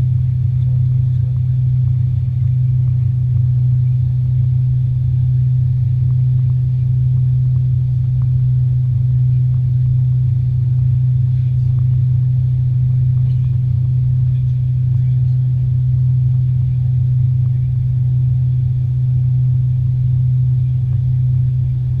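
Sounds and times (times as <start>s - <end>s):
jet airliner cabin drone: 0.0s - 22.0s.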